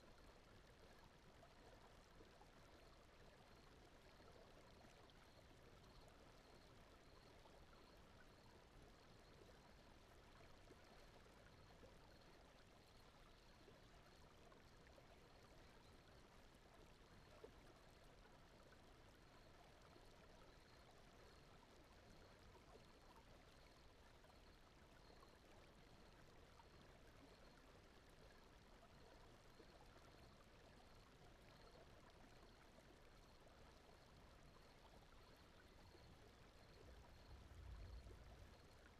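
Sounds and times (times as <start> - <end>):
gently flowing water: 0.0 - 38.9.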